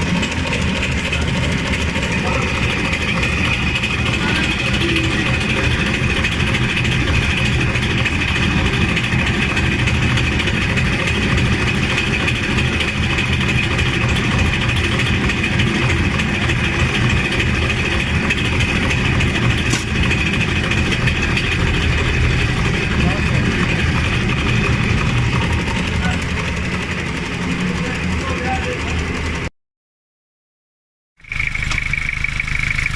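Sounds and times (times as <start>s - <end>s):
diesel engine idling: 0.0s - 29.5s, 31.2s - 32.9s
high-pitched whine: 0.0s - 29.5s.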